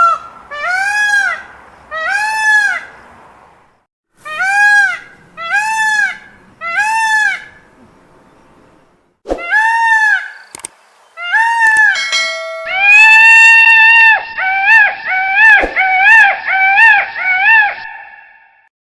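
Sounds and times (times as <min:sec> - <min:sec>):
peacock calling: 0:00.0 - 0:03.0, 0:04.2 - 0:08.6, 0:09.4 - 0:18.4.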